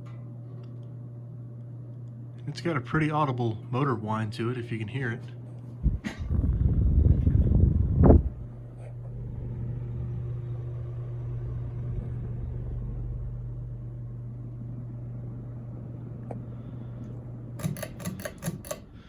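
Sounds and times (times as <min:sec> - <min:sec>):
ceiling fan motor hum: 0:00.0 - 0:19.0.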